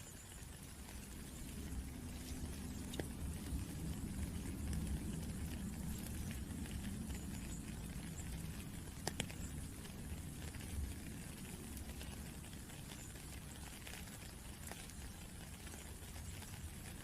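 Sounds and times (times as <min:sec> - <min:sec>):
rain falling: 0:00.0 - 0:17.0
sharp drip ticks: 0:00.0 - 0:17.0.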